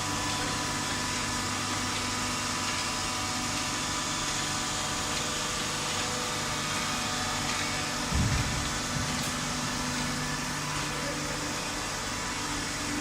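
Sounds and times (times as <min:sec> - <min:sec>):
baling machine humming: 0:00.0 - 0:13.0.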